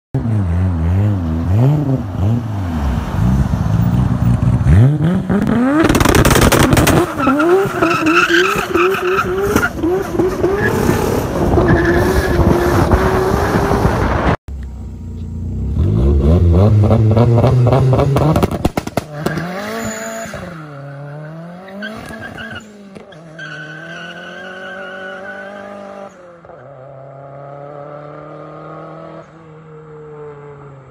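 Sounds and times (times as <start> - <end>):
car engine revving: 0.2 - 29.3.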